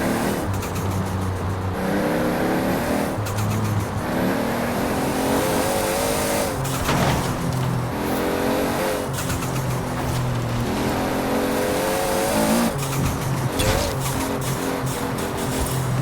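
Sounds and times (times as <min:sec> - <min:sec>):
turbo car engine accelerating: 0:00.0 - 0:16.0.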